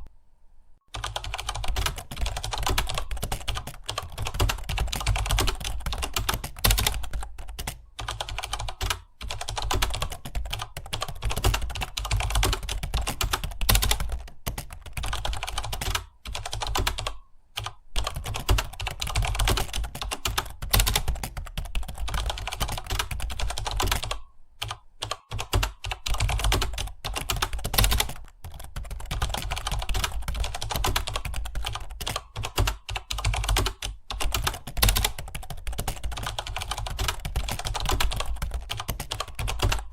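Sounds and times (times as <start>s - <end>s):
fast typing on keyboard: 0.9s - 39.9s.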